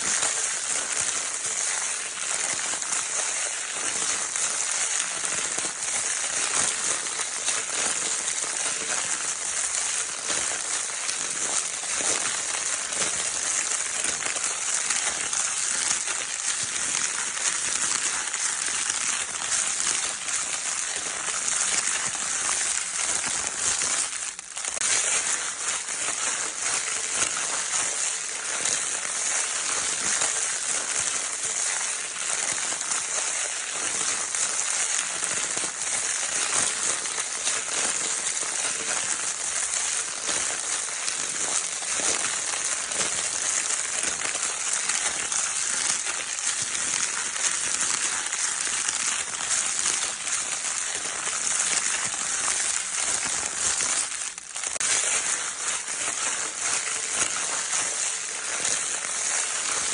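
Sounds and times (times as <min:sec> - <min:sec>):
crinkle paper toy crackling: 0:00.0 - 0:59.9.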